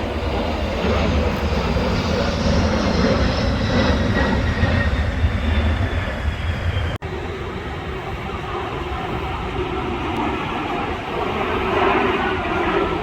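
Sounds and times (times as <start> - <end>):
aircraft roar: 0.0 - 13.0.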